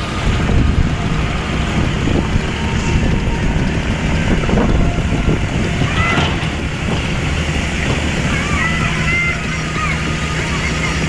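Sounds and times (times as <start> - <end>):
heavy vehicle engines rumbling: 0.0 - 11.0.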